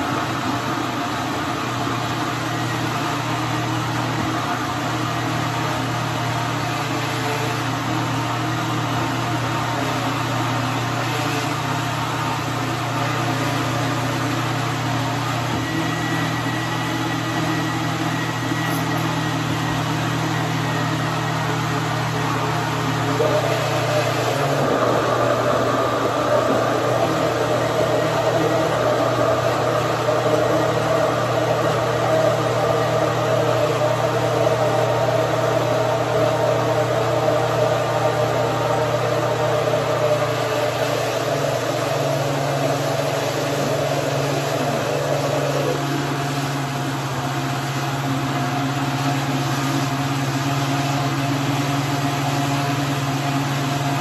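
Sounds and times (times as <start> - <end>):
blender motor running: 0.0 - 54.0.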